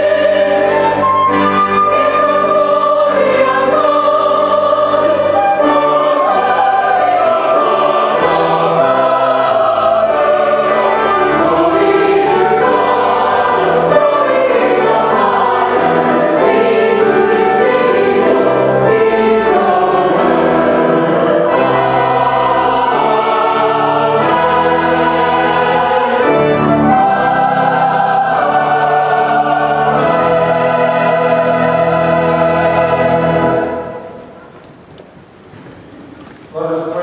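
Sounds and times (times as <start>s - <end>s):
church choir singing: 0.0s - 34.6s
keyboard accompaniment: 0.0s - 36.3s.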